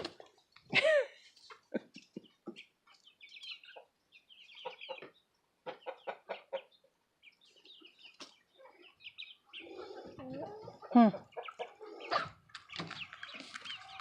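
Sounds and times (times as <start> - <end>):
chicken clucking: 1.4 - 14.0.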